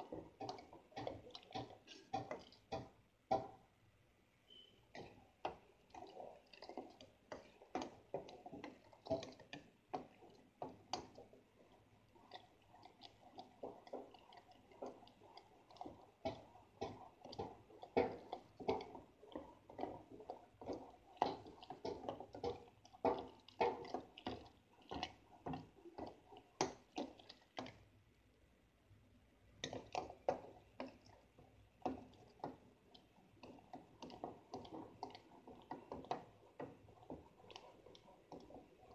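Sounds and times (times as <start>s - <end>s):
utensil tapping metal pot: 0.0s - 3.7s, 4.5s - 27.8s, 29.6s - 38.9s
liquid swishing in a pot: 0.0s - 38.9s.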